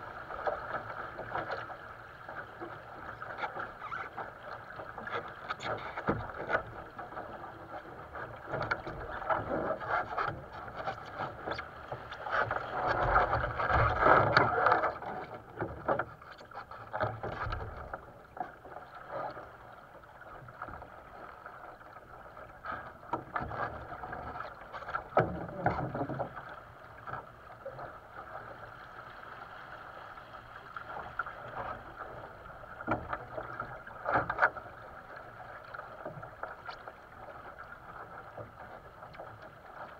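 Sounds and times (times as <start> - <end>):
water slapping along hull: 0.0 - 39.9.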